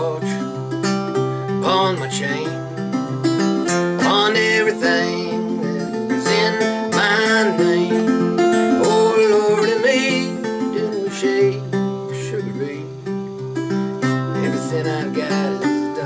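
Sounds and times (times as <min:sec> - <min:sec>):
fingerpicked acoustic blues guitar: 0:00.0 - 0:16.0.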